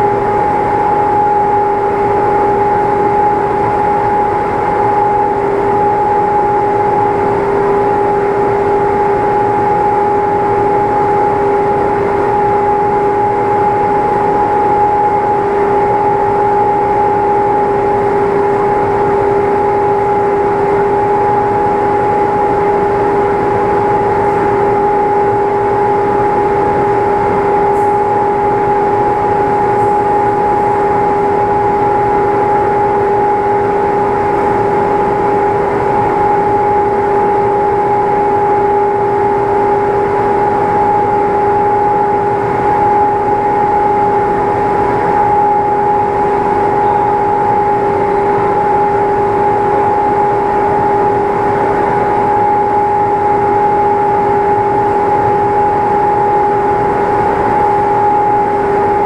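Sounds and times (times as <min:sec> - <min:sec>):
machine humming with steady whine: 0:00.0 - 0:59.0.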